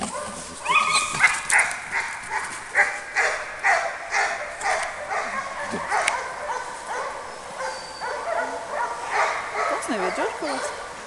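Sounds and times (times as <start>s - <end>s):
dog barking excitedly: 1.1s - 10.8s.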